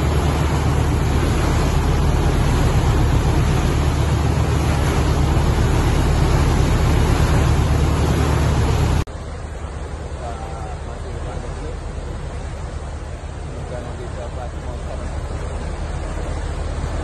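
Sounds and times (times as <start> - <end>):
boat engine running: 0.0 - 17.0
propeller wash churning: 0.0 - 17.0
sea and wind hiss: 0.0 - 17.0.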